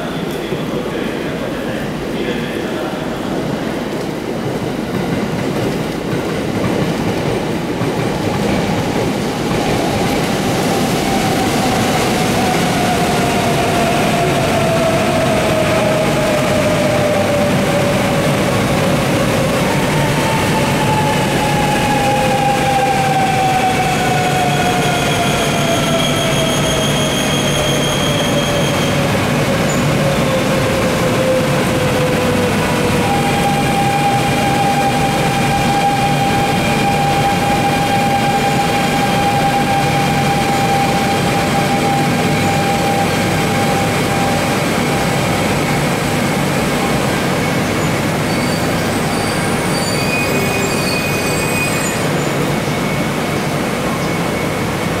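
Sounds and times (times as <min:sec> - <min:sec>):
high train whine: 0:00.0 - 0:55.0
train rumble: 0:00.0 - 0:55.0.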